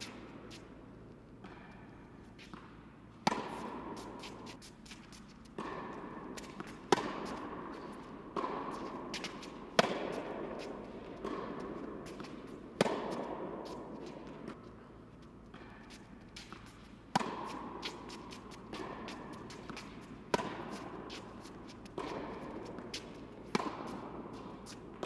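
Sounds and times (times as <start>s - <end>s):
tennis ball hit by racket: 1.4s - 14.6s, 15.6s - 25.0s.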